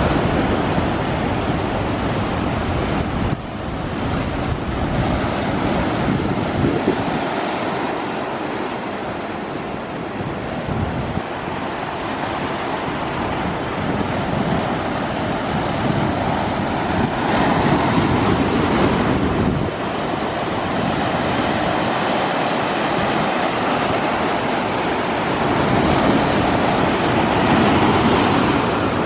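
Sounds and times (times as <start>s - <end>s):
waves breaking: 0.0s - 29.0s
wind buffeting microphone: 0.0s - 29.0s.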